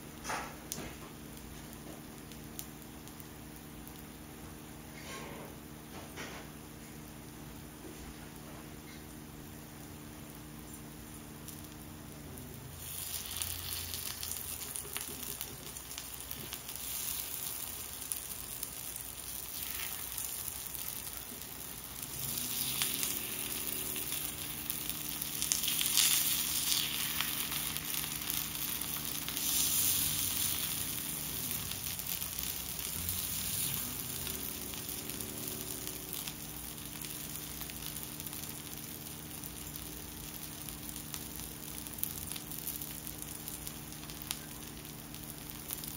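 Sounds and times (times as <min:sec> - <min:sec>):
batter sizzling in a pan: 0:00.0 - 0:45.9.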